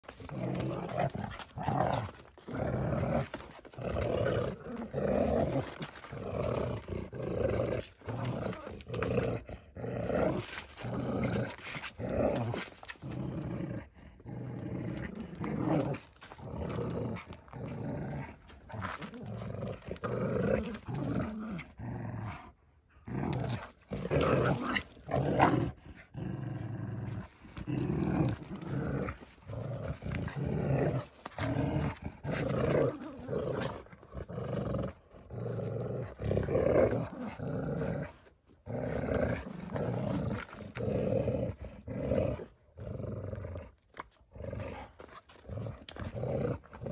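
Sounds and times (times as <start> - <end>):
dogs growling in play: 0.0 - 46.9.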